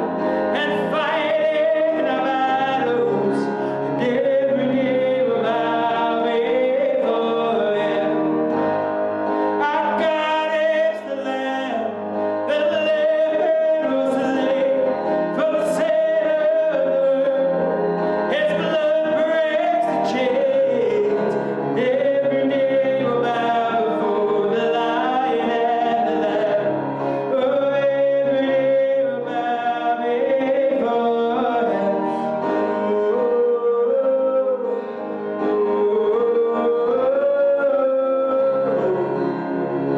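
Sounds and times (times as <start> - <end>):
person singing: 0.0 - 39.9.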